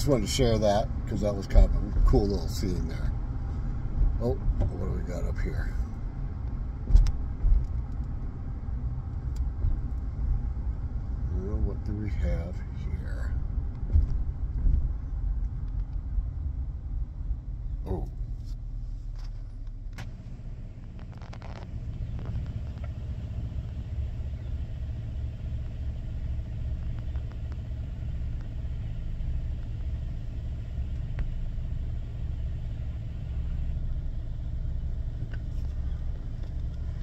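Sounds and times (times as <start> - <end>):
car engine rumbling: 0.0 - 37.0.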